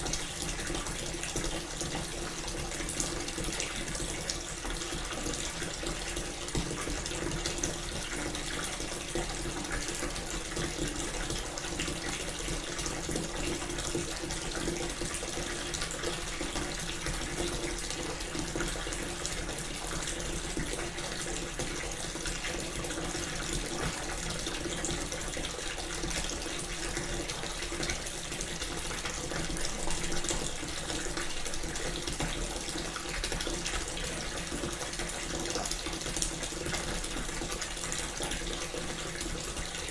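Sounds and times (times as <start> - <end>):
water running from a tap into bathtub: 0.0 - 39.9.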